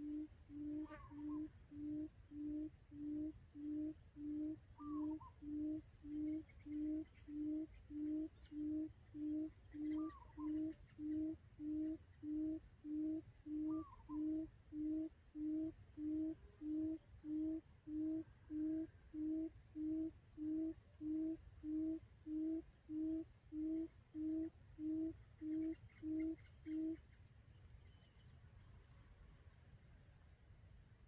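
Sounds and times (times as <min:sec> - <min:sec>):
quail lure call hooting: 0:00.0 - 0:27.0.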